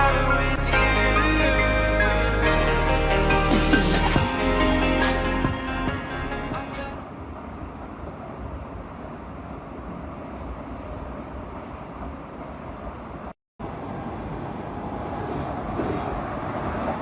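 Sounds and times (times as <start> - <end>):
moving train running noise: 3.3 - 17.0.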